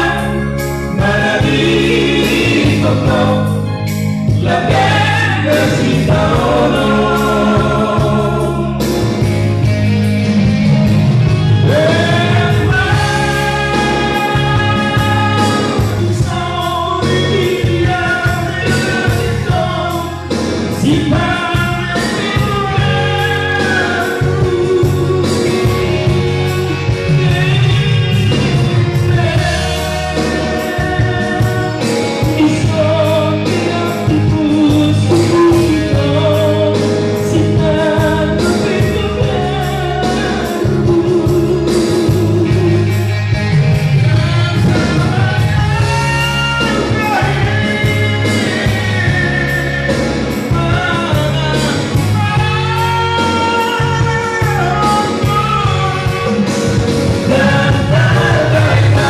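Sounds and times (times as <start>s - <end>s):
men singing into microphones: 0.0s - 9.7s, 11.6s - 59.0s
instrumental music with bass and beat: 0.0s - 59.0s.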